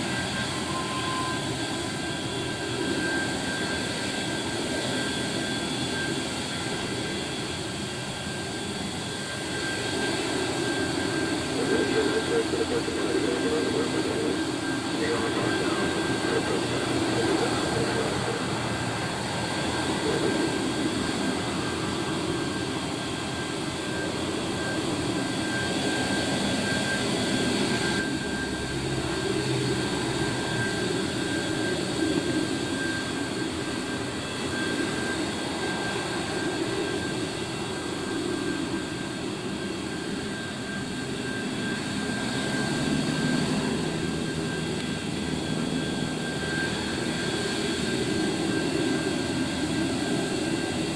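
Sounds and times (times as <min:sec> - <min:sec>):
jet engines running: 0:00.0 - 0:50.9.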